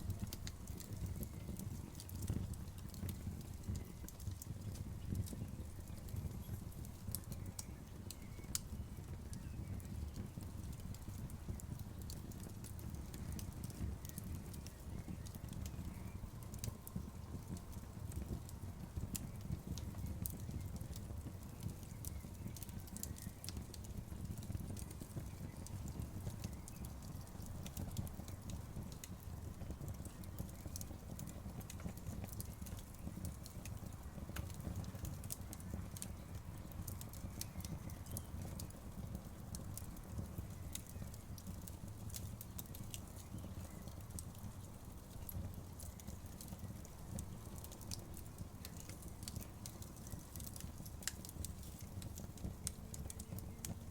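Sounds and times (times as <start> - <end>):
bonfire crackling: 0.0 - 53.9.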